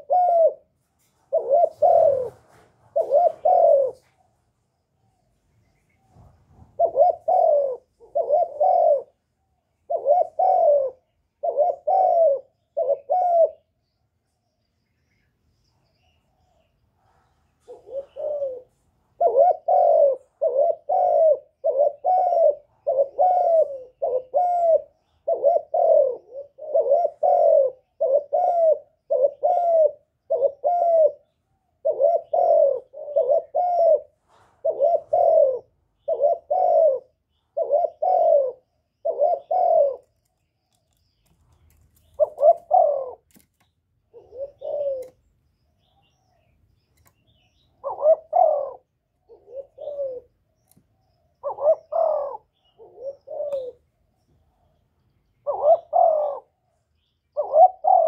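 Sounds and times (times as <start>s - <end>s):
dove cooing: 0.0s - 4.3s, 6.0s - 13.8s, 16.3s - 40.3s, 40.9s - 45.3s, 46.0s - 50.8s, 51.4s - 53.9s, 55.4s - 58.0s.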